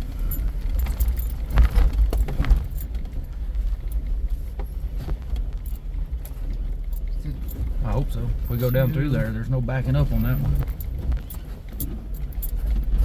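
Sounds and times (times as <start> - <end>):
vehicle engine rumble: 0.0 - 13.0
vehicle rattles and knocks: 0.0 - 13.0.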